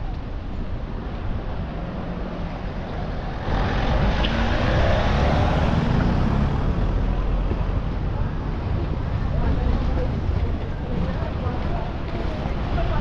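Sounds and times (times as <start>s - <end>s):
traffic going by: 0.0s - 13.0s
vehicle engine: 0.9s - 13.0s.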